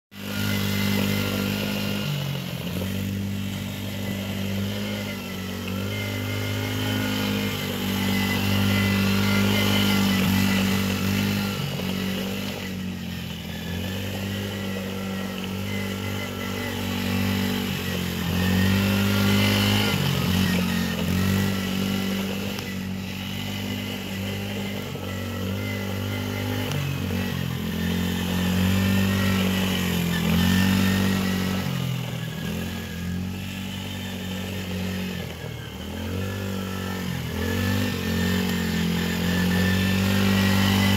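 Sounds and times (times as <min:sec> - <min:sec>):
quad engine revving: 0:00.1 - 0:40.9.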